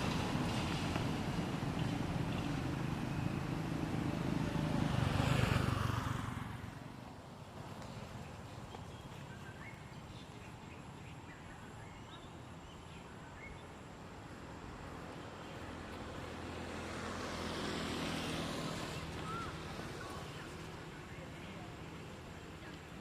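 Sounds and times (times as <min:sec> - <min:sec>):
engine passing by: 0:00.0 - 0:09.7, 0:14.1 - 0:23.0.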